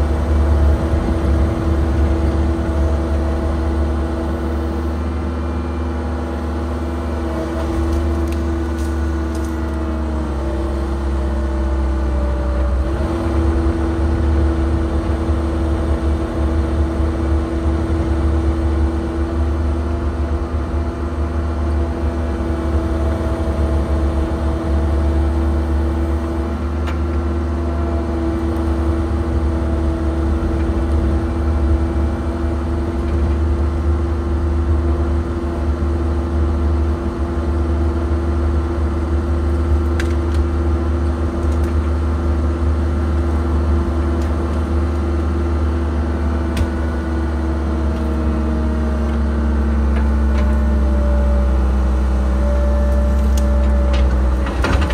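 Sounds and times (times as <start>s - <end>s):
excavator engine under hydraulic load: 0.0s - 54.9s.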